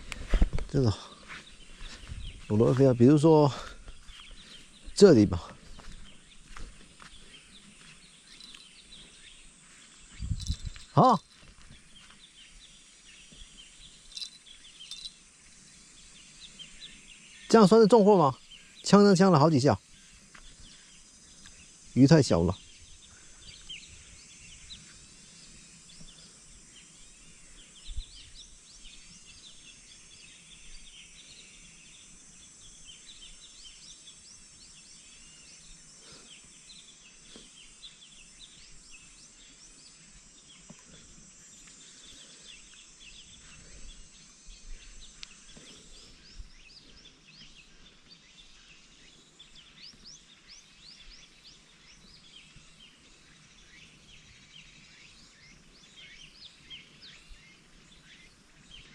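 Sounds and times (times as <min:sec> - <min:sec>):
small birds chirping: 0:00.0 - 0:58.9
steady high-pitched hiss: 0:00.0 - 0:58.9.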